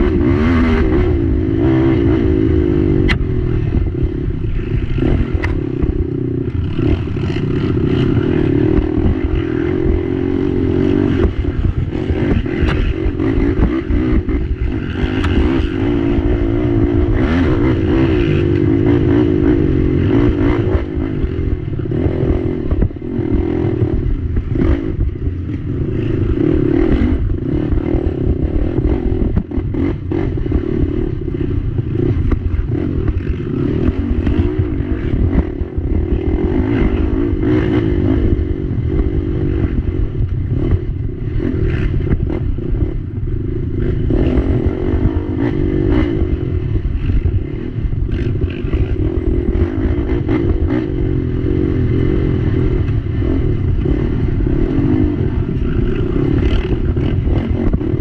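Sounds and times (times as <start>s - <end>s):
atv engine revving: 0.0s - 58.0s
knocks and rattles over rough trail: 0.0s - 58.0s.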